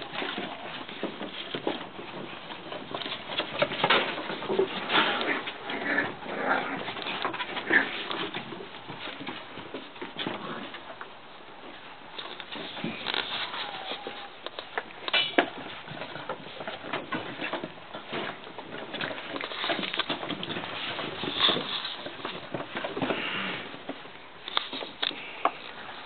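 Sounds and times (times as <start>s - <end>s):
puppy paws scrabbling on wood: 0.0s - 26.0s.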